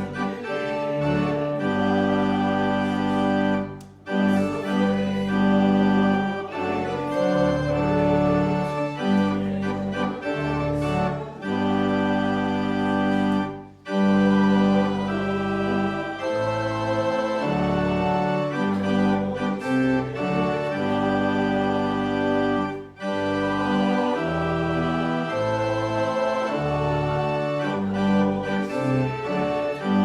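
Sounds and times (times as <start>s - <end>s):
church organ playing a hymn: 0.0s - 30.0s.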